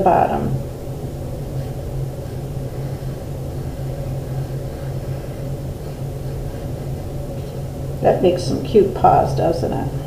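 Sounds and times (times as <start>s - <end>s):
faint rumble: 0.0s - 10.0s
steady low hum: 0.0s - 10.0s.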